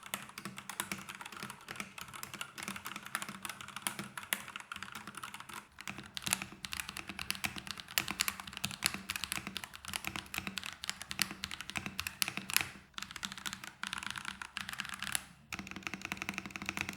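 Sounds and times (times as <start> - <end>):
fast typing on mechanical keyboard: 0.0 - 16.9.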